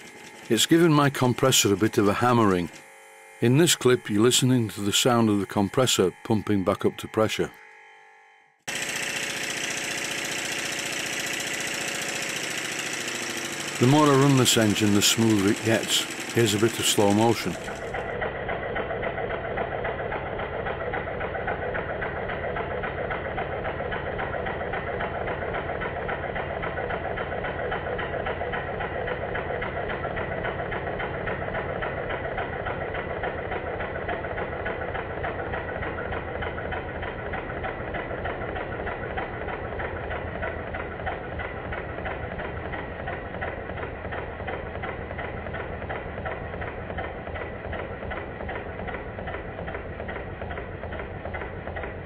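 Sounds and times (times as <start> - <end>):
model steam engine clattering: 0.0 - 7.5, 8.7 - 52.0.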